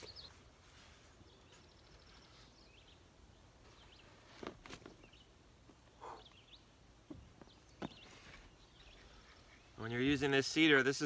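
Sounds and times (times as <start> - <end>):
distant bird chirps: 0.0 - 10.4.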